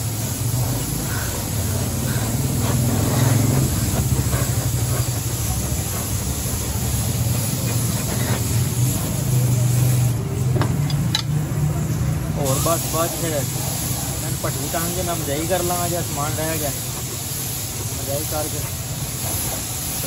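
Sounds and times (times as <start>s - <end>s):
paint spray gun hissing: 0.0s - 20.0s.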